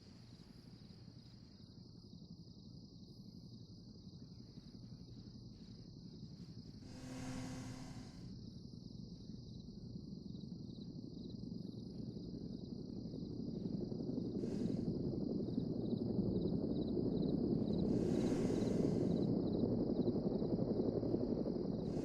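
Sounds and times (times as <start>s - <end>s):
insects chirping: 0.2s - 22.0s.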